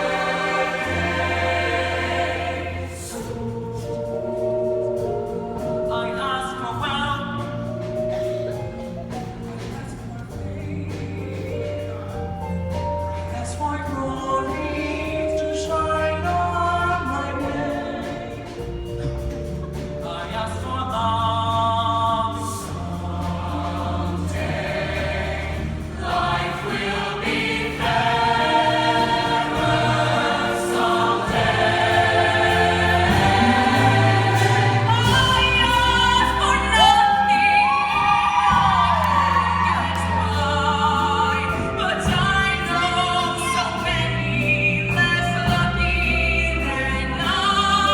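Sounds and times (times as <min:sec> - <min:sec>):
people singing: 0:00.0 - 0:07.6, 0:14.1 - 0:19.3, 0:20.0 - 0:47.9
band accompaniment: 0:00.0 - 0:47.9.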